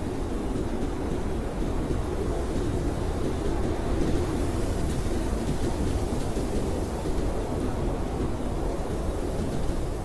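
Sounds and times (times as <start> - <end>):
blizzard wind blowing: 0.0 - 10.0.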